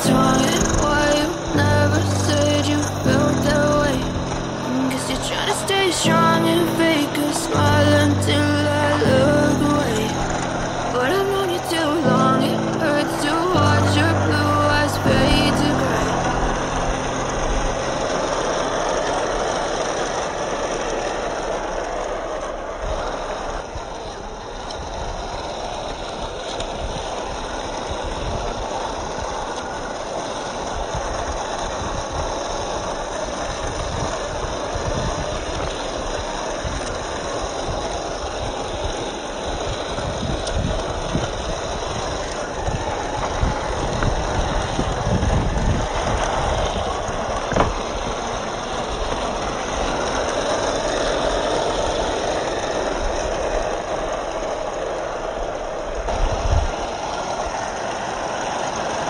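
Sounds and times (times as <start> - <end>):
rc truck electric motor whirring: 0.0 - 59.0
tires crawling over dirt and stones: 0.0 - 59.0.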